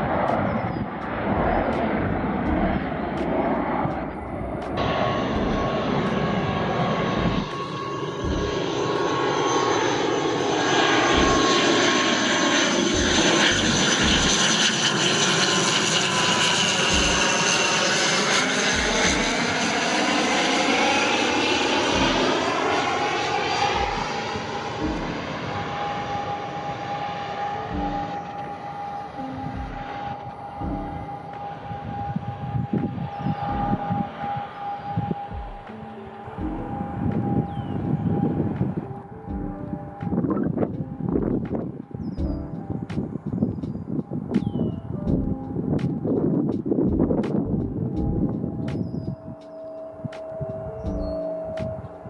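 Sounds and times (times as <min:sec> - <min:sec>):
turboprop airliner drone: 0:00.0 - 0:52.0.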